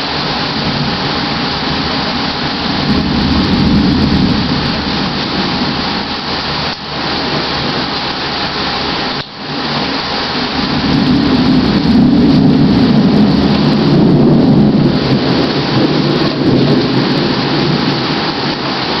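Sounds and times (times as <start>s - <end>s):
rolling thunder: 0.0s - 8.0s, 9.4s - 19.0s
steady rain: 0.0s - 19.0s.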